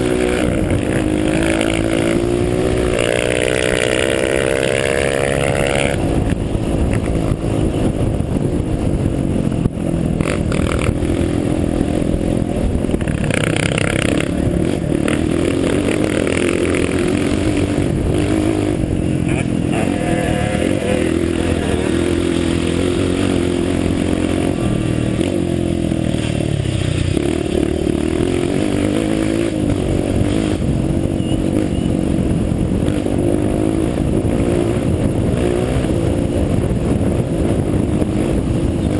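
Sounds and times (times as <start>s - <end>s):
off-road vehicle engine revving: 0.0s - 8.5s, 9.5s - 38.9s.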